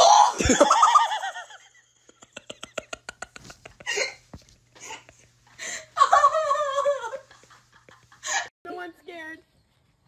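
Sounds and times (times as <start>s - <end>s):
person laughing: 0.2s - 8.5s.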